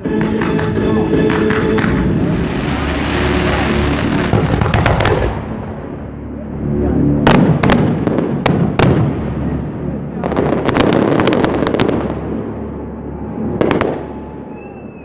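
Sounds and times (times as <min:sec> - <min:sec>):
fireworks bangs and crackling: 0:00.0 - 0:06.2, 0:07.2 - 0:12.8, 0:13.4 - 0:15.0.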